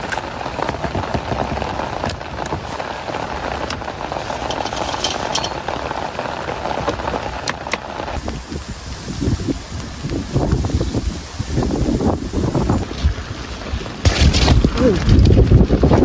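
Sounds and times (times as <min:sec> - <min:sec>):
raindrops ticking: 0:00.0 - 0:13.0
steady rain hiss: 0:00.0 - 0:16.0.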